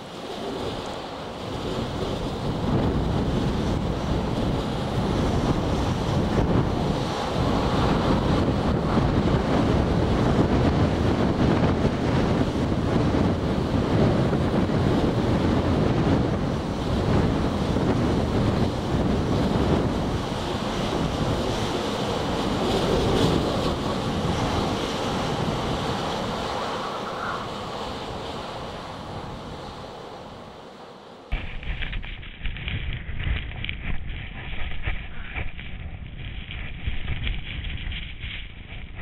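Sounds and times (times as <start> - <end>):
blizzard wind buffeting microphone: 0.0 - 39.0.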